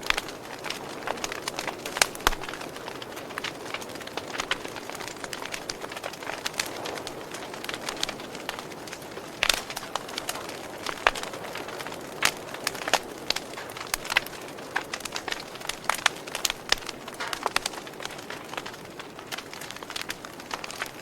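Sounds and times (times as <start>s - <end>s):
hiss of burning: 0.0s - 21.0s
wood fire popping and snapping: 0.0s - 21.0s.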